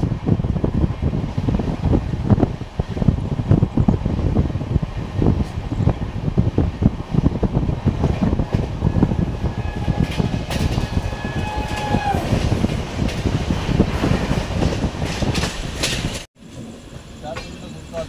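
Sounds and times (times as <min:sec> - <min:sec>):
train rumble and wheel clatter: 0:00.0 - 0:18.0.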